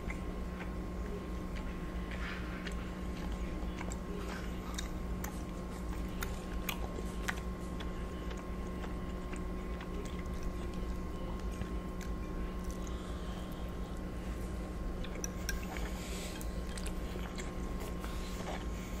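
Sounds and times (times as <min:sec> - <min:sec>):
close chewing with mouth clicks: 0:00.0 - 0:19.0
steady low hum: 0:00.0 - 0:19.0.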